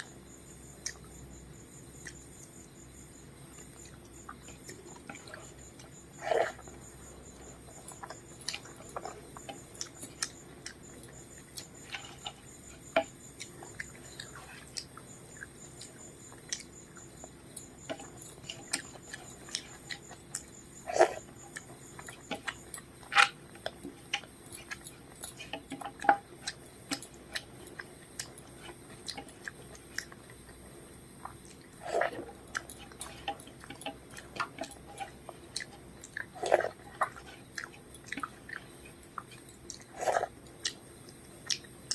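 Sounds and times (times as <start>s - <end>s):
chewing with wet clicks: 0.0s - 41.9s.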